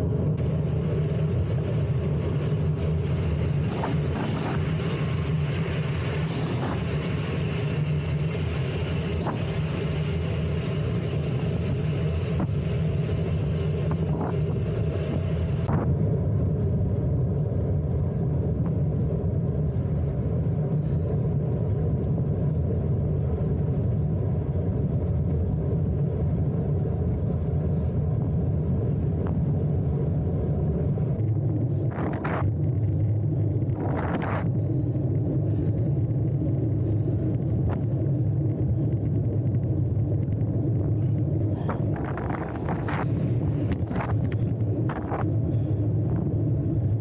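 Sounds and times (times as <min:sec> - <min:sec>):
wind rumble over microphone: 0:00.0 - 0:47.0.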